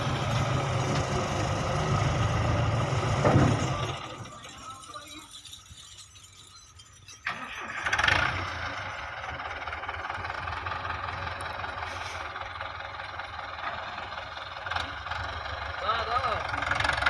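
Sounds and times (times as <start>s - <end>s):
tractor diesel engine starting: 0.0s - 17.0s.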